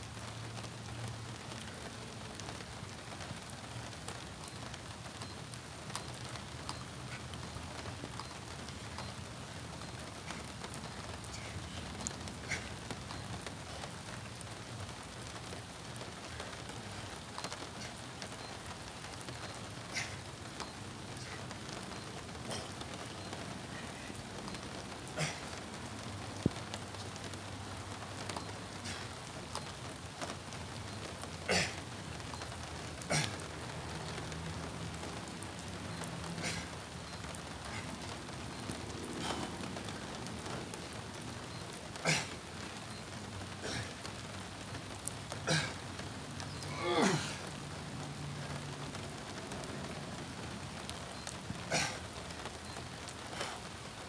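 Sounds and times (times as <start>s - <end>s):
rain falling on pavement: 0.0s - 54.0s.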